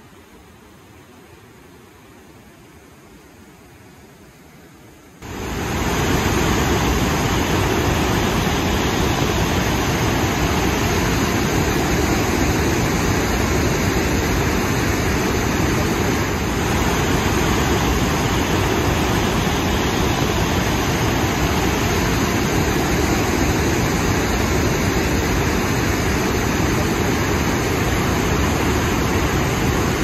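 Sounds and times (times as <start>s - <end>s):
waterfall rushing: 5.2s - 30.0s.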